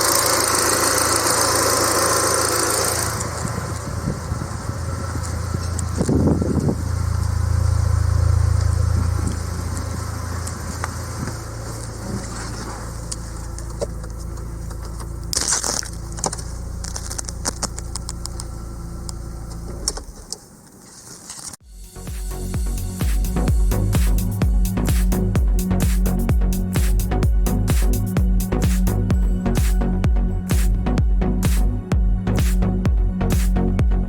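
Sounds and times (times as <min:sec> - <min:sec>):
car engine idling: 0:00.0 - 0:20.8, 0:21.6 - 0:34.0.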